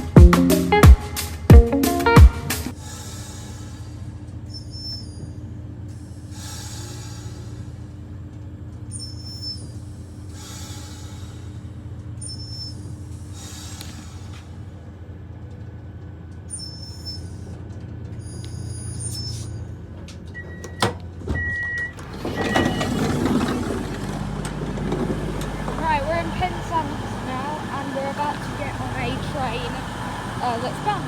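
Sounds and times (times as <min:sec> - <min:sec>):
train engines idling: 0:02.7 - 0:31.0.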